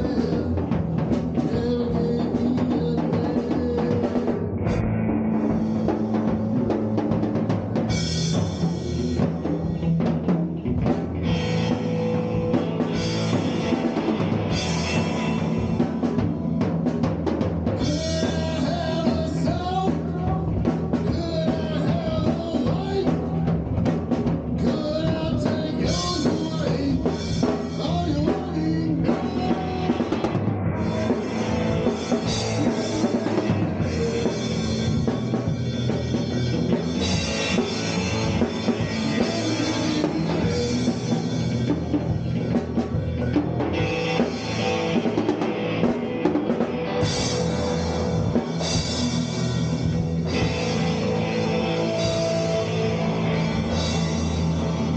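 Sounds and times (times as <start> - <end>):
drum kit: 0.0 - 54.9
electric guitars with effects: 0.0 - 54.9.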